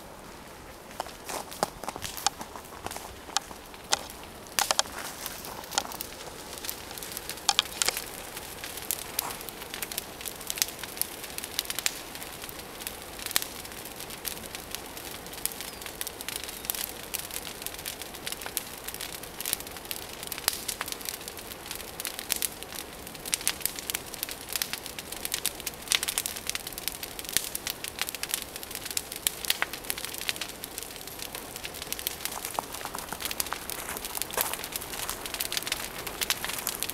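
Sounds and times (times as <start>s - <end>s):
fire crackling and hissing: 0.0s - 36.9s.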